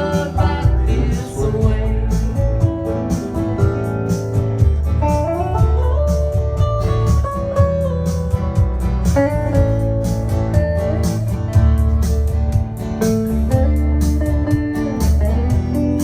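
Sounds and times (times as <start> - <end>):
bass guitar: 0.0 - 16.0
lead guitar melody: 0.0 - 16.0
strummed guitar: 0.0 - 16.0.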